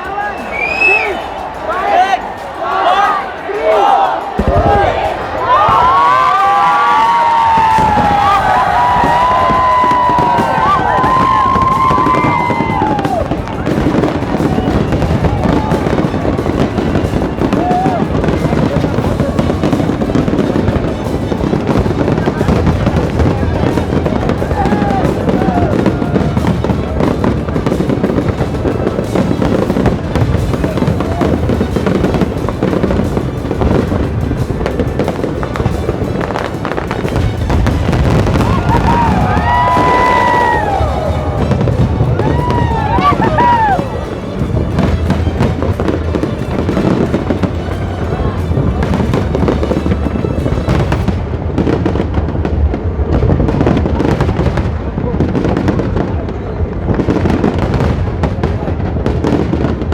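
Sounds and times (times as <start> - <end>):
loud music: 0.0 - 56.0
crowd voices: 0.0 - 59.9
fireworks bursting and crackling: 0.0 - 59.9.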